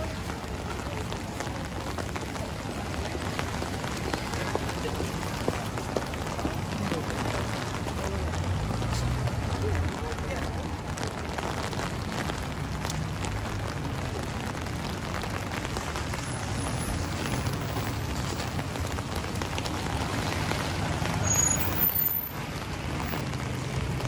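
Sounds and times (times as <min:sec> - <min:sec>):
traffic on wet road: 0:00.0 - 0:24.0.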